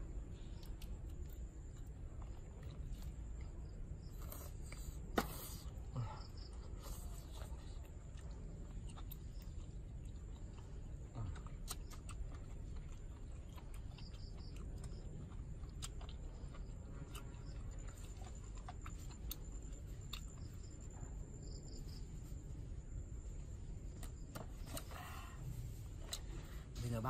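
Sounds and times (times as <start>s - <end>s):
man chewing food: 0.0s - 27.0s
steady low rumble: 0.0s - 27.0s.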